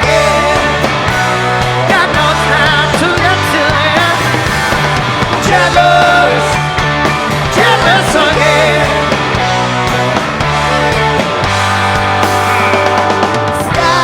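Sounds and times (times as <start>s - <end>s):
guitar-driven rock music: 0.0s - 14.0s.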